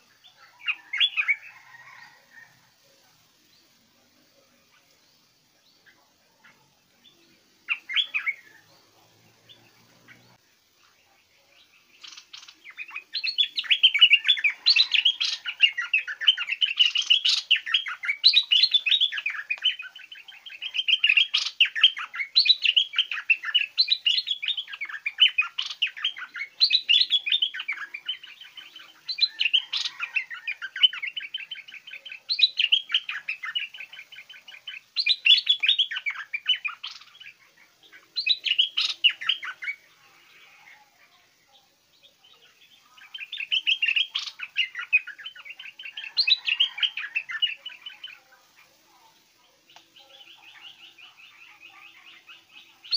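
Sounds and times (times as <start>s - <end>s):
bird singing chattering phrases: 0.0s - 1.6s, 2.9s - 52.9s.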